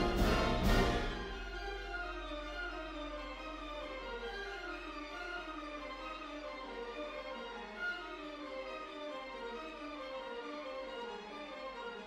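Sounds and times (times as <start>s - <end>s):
slow string music: 0.0s - 11.2s.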